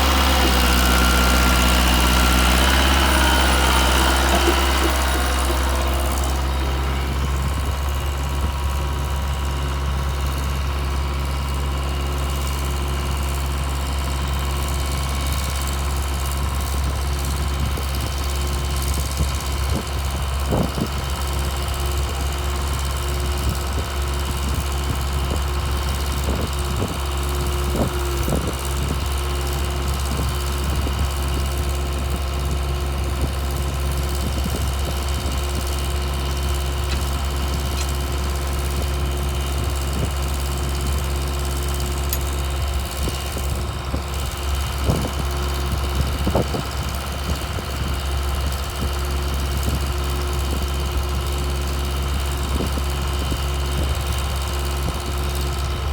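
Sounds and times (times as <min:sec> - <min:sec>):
diesel engine running steadily: 0:00.0 - 0:55.9.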